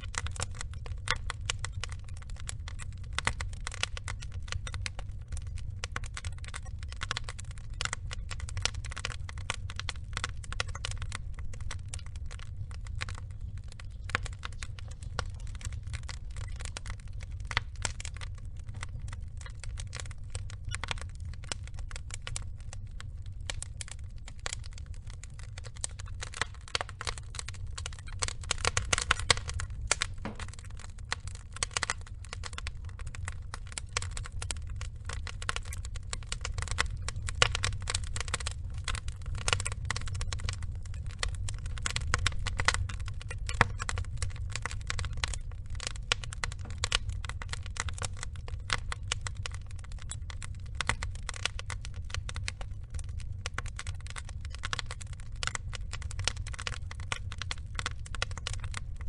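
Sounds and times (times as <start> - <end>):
fire crackling and popping: 0.0 - 59.0
wood logs burning: 0.0 - 59.0.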